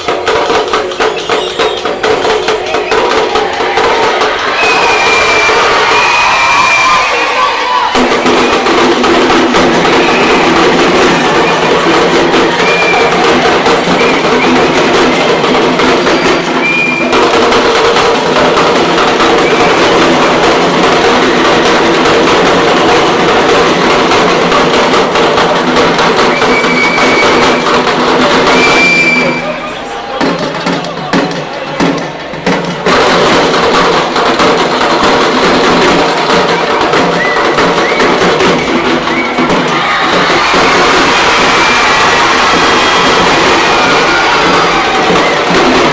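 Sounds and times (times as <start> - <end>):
frame drums fast rhythm: 0.0 - 45.9.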